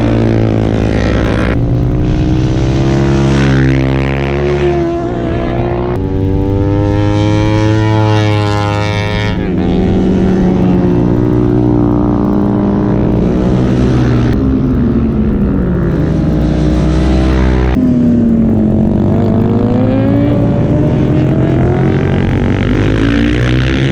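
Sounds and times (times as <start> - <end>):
superbike engines racing: 0.0 - 23.9.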